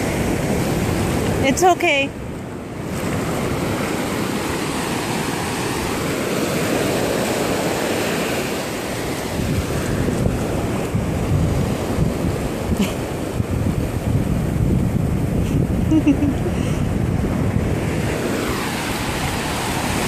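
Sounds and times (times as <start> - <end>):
surf washing over sand: 0.0 - 20.0
wind rumbling on microphone: 0.0 - 20.0.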